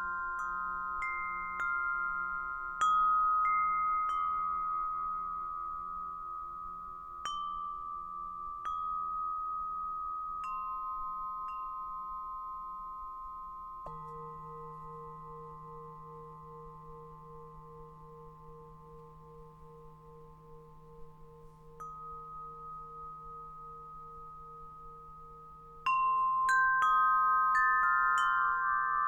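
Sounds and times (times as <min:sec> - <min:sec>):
wind chime tubes ringing: 0:00.0 - 0:29.0.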